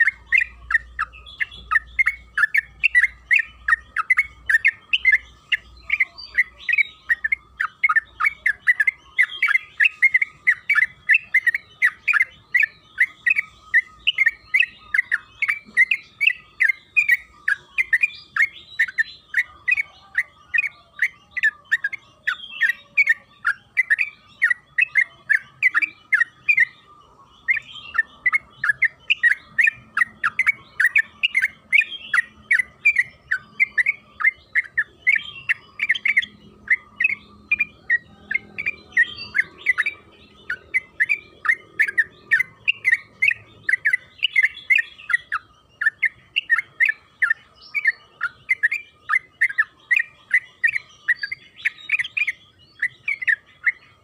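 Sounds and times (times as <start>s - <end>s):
bird singing chattering notes: 0.0s - 54.0s.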